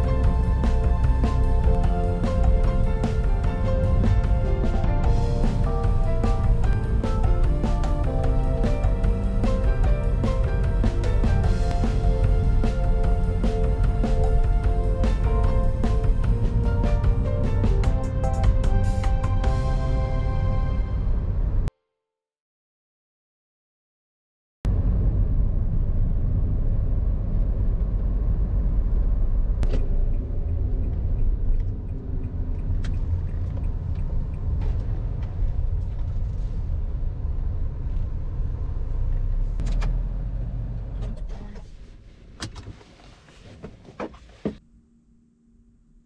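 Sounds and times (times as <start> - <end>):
car engine and road rumble: 0.0 - 21.7, 24.7 - 44.6.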